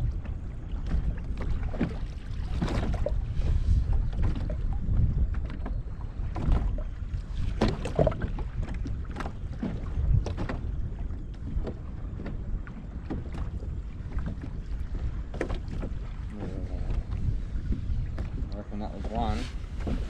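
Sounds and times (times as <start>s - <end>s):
waves slapping against hull: 0.0s - 20.0s
wind buffeting microphone: 0.0s - 20.0s.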